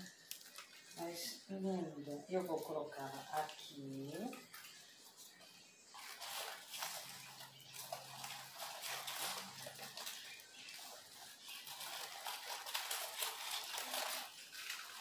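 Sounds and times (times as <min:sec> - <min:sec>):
leaves rustling under hands: 0:00.0 - 0:15.0.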